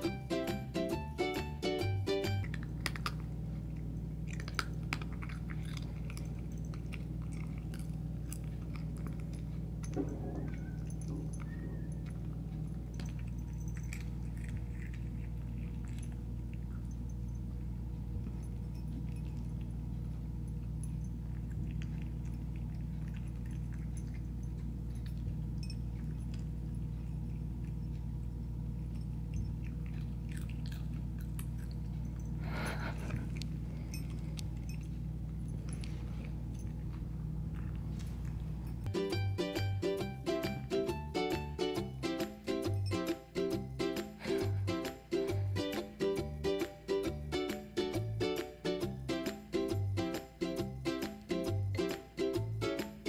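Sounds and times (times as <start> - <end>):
steady low hum: 0.0 - 53.0
cat eating from bowl: 1.0 - 48.2.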